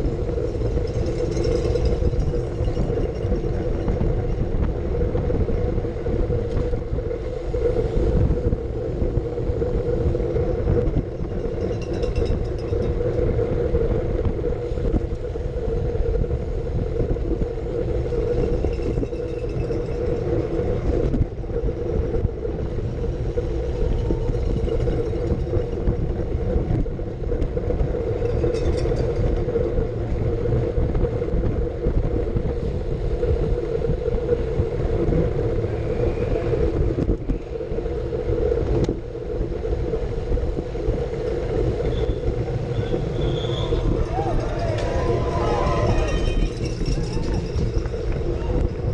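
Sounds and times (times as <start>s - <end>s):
road and tyre noise: 0.0s - 48.9s
wind buffeting microphone: 0.0s - 48.9s.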